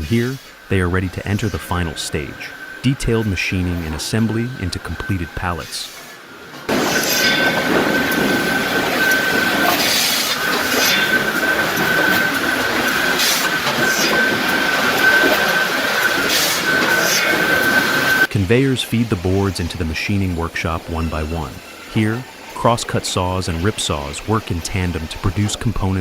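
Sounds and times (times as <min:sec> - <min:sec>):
high squealing tone: 0:00.0 - 0:25.9
sawmill machinery din: 0:00.0 - 0:26.0.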